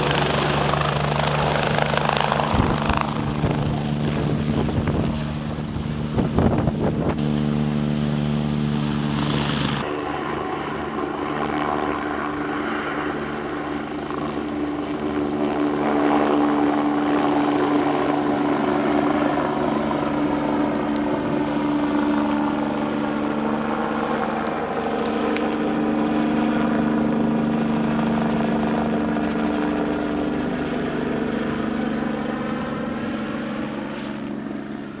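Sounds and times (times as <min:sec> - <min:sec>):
helicopter engine and rotors: 0:00.0 - 0:35.0.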